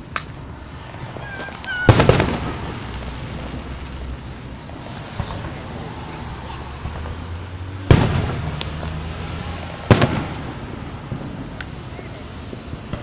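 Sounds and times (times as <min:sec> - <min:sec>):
firework bursts with rumble: 0:00.0 - 0:13.0
small firework crack: 0:00.0 - 0:13.0.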